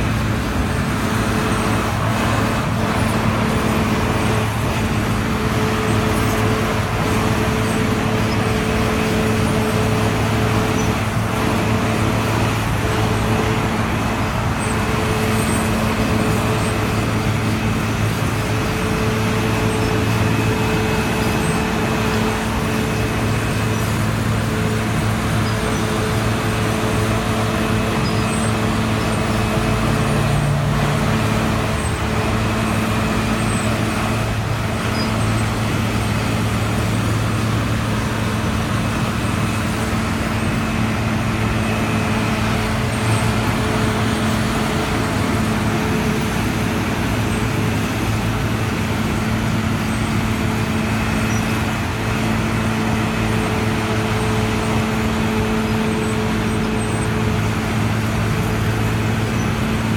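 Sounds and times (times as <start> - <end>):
diesel engine drone: 0.0 - 59.9
machine grinding asphalt: 0.0 - 59.9.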